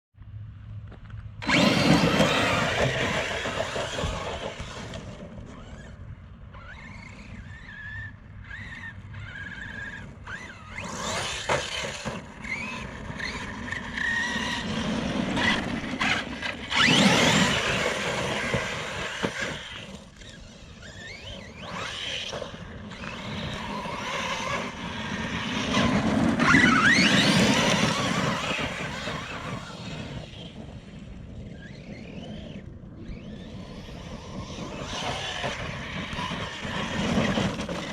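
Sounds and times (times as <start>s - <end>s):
rc truck motor whining: 1.4s - 37.9s.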